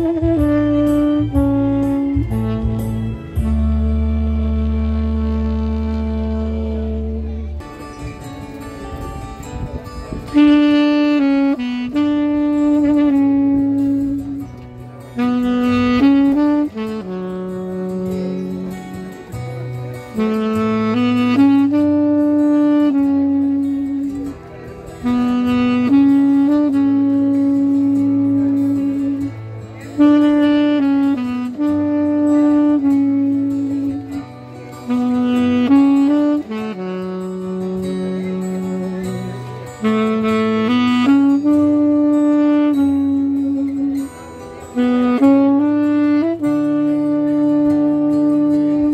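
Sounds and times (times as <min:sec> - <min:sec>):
low bass line: 0:00.0 - 0:44.0
saxophone slow melody: 0:00.0 - 0:48.9.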